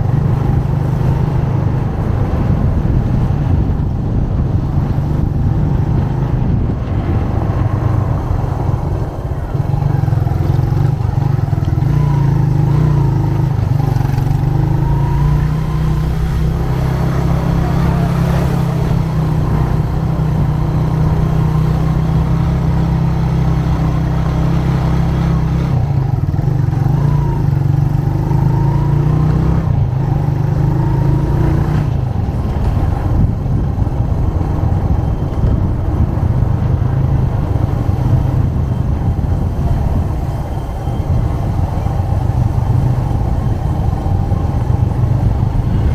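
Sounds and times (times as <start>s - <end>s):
motorcycle engine running: 0.0s - 45.9s
road and traffic noise: 0.0s - 45.9s.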